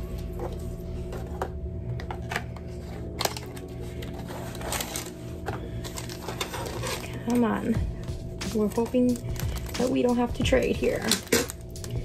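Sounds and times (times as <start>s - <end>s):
cardboard and foil rustling: 0.0s - 12.0s.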